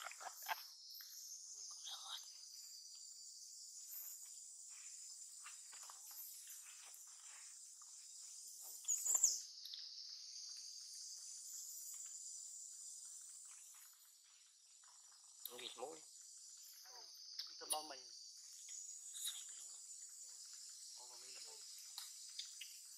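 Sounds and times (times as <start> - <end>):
insect chorus: 0.0 - 22.9.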